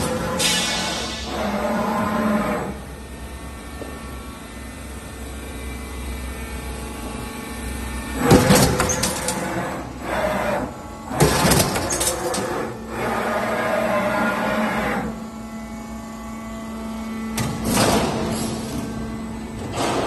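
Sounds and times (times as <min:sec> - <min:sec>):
low machine hum: 0:00.0 - 0:20.0
punching press working cycles: 0:00.0 - 0:20.0.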